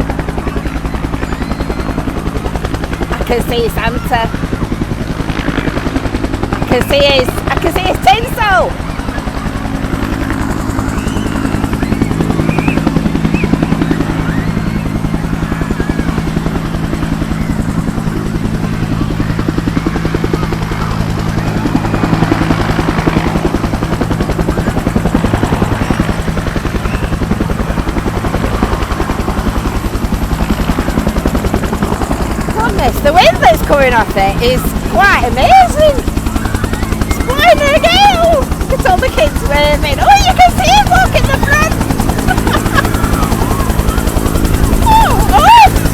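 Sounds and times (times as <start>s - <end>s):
helicopter rotor beating: 0.0s - 45.9s.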